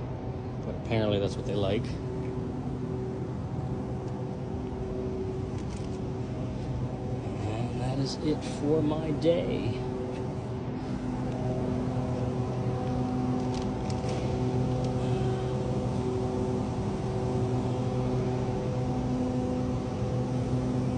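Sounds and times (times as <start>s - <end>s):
low machine hum: 0.0s - 20.9s.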